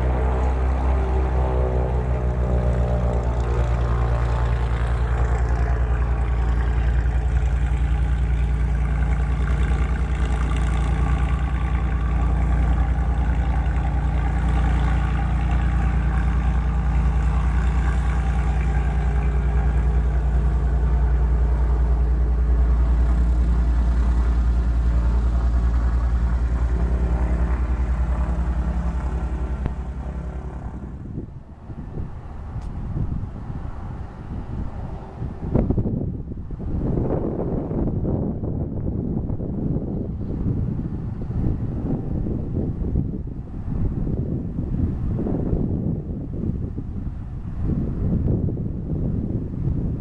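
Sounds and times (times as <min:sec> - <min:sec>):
propeller aircraft engine drone: 0:00.0 - 0:50.0.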